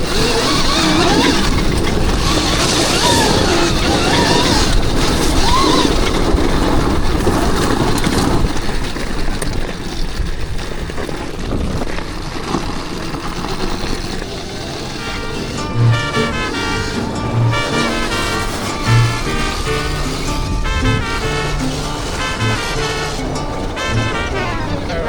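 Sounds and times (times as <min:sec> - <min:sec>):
dirt bike motor: 0:00.0 - 0:25.0
wind rush over microphone: 0:00.0 - 0:25.0.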